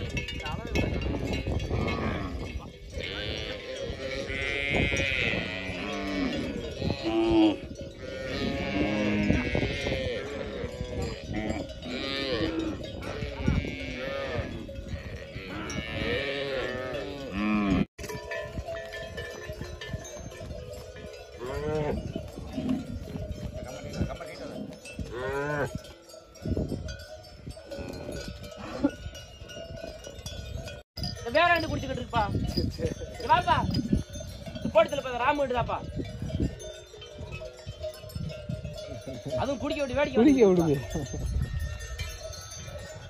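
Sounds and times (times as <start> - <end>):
cattle bells clanking: 0.0 - 43.0.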